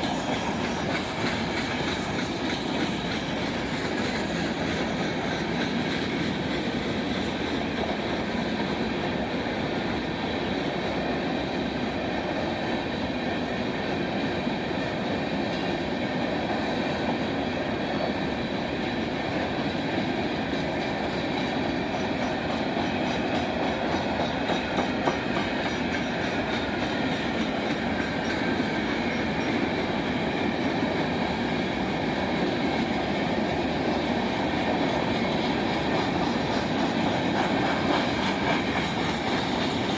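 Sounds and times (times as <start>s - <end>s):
railroad cars rumbling on track: 0.0s - 39.9s.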